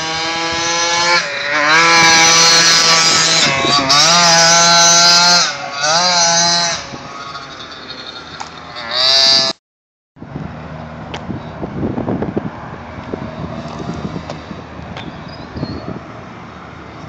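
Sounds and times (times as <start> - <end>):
wind noise on microphone: 0.0 - 7.8, 9.0 - 9.6, 10.2 - 17.0
small two-stroke engine buzzing: 0.0 - 9.6, 10.3 - 17.0.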